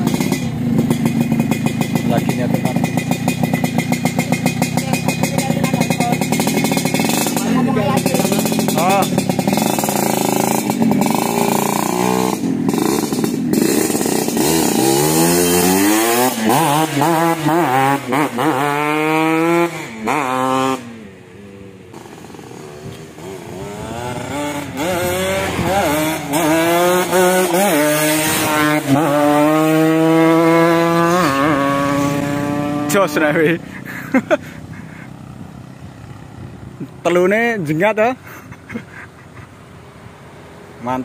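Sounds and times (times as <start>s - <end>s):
motorcycle engine revving: 0.0s - 38.8s.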